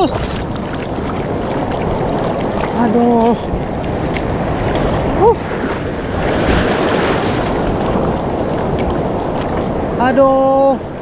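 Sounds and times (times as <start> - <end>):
surf washing and foaming: 0.0 - 11.0
wind buffeting microphone: 0.0 - 11.0.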